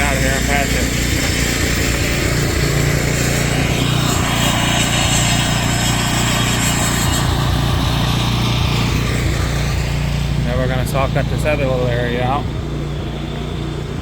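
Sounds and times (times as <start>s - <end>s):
asphalt saw cutting pavement: 0.0s - 14.0s
high-pitched cutting sound: 0.0s - 14.0s.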